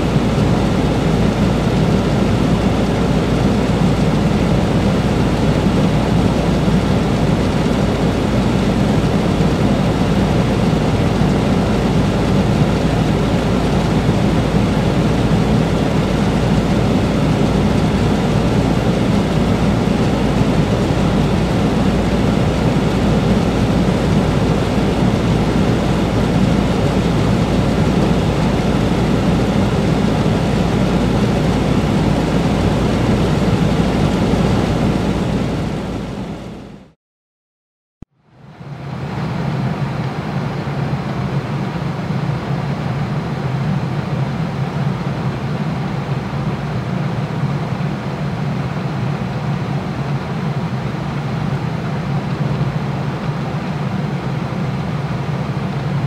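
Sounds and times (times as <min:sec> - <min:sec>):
air conditioner rumble: 0:00.0 - 0:37.0, 0:38.4 - 0:56.0.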